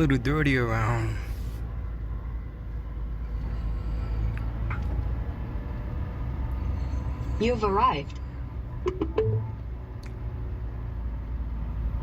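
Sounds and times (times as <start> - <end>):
pickup truck driving rumble: 0.0 - 12.0.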